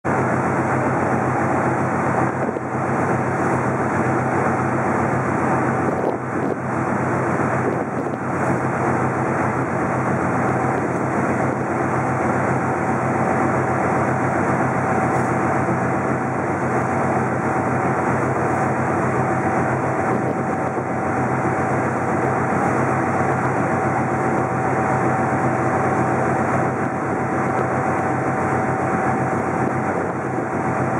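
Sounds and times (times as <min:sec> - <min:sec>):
ferry engines droning: 0:00.1 - 0:30.9
thin steady whine: 0:00.1 - 0:30.9
wind on microphone: 0:00.8 - 0:30.9.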